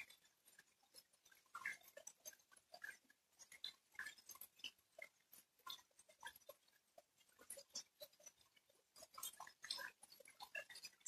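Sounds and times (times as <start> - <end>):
raindrops ticking: 0.0 - 11.0.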